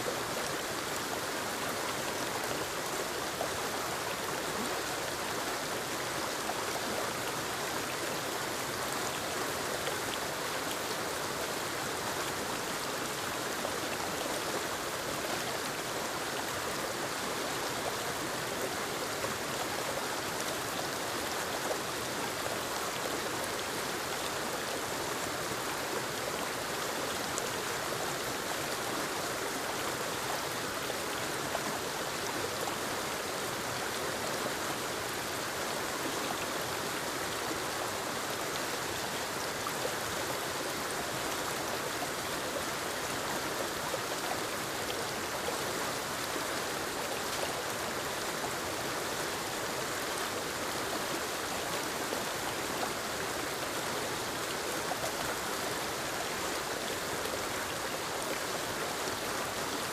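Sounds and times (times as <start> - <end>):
waterfall rushing into creek: 0.0 - 59.9.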